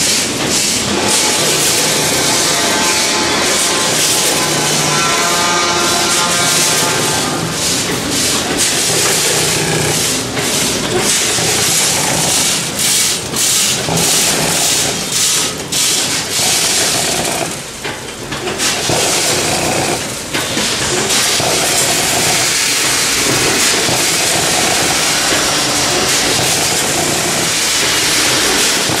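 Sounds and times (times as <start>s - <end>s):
packaging machine noise with hiss: 0.0s - 29.0s.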